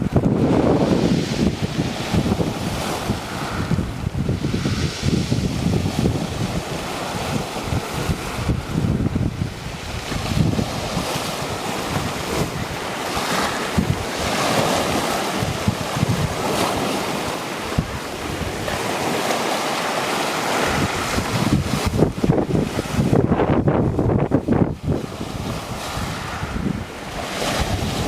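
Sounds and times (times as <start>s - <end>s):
surf washing onto shore: 0.0s - 28.0s
wind buffeting microphone: 0.0s - 28.0s.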